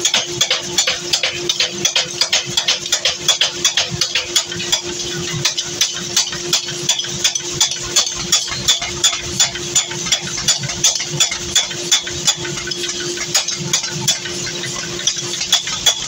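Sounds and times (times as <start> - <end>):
power hammer pounding metal: 0.0 - 16.0.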